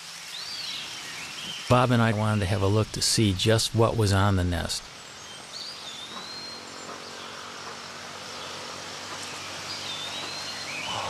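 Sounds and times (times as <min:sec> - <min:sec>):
insects hissing: 0:00.0 - 0:11.0.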